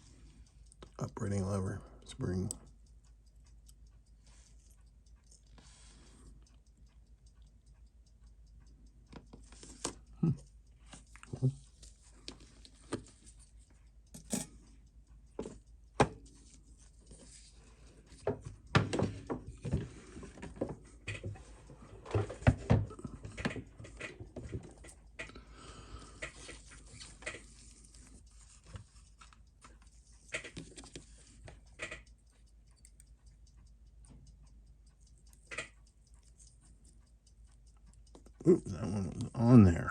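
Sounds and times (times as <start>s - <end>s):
small clicks and taps of watch tools: 0.0s - 39.9s.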